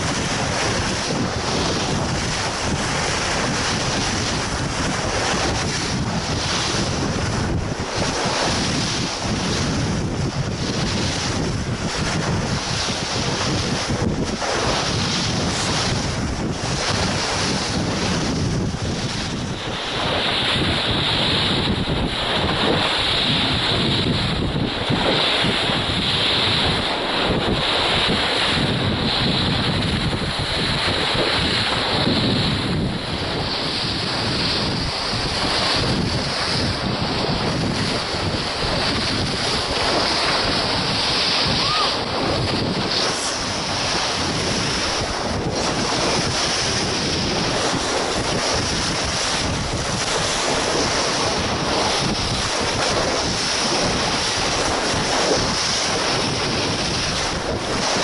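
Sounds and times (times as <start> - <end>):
rushing water: 0.0 - 58.0
wind on microphone: 0.0 - 58.0.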